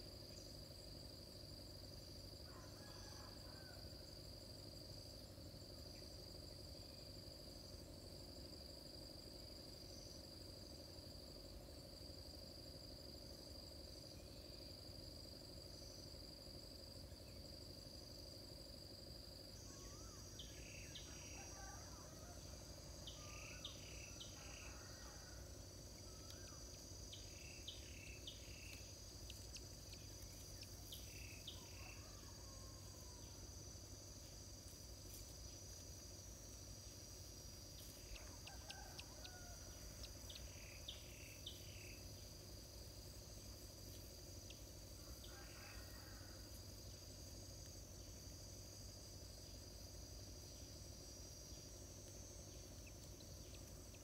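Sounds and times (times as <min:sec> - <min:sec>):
high-pitched insect trill: 0:00.0 - 0:54.0.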